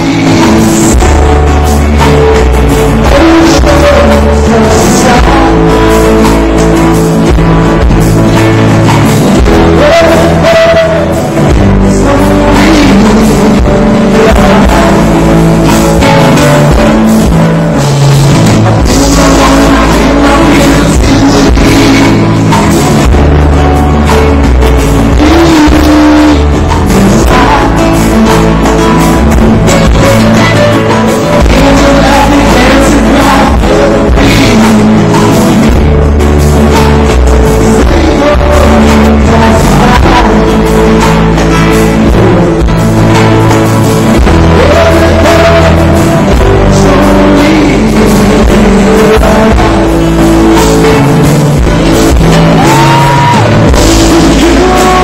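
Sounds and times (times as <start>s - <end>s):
acoustic and electric guitars: 0.0s - 55.0s
bass guitar: 0.0s - 55.0s
drum kit: 0.0s - 55.0s
person singing: 0.0s - 55.0s.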